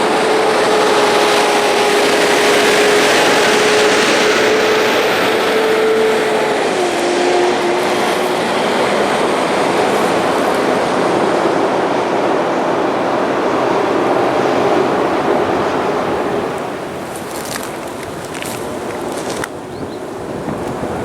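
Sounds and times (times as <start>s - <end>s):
heavy trucks rumbling past: 0.0s - 21.0s.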